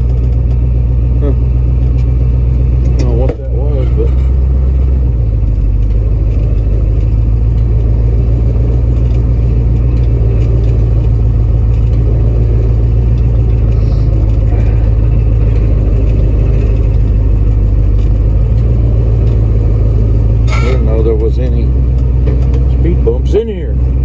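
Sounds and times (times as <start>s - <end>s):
road noise: 0.0s - 24.0s
truck engine drone: 0.0s - 24.0s.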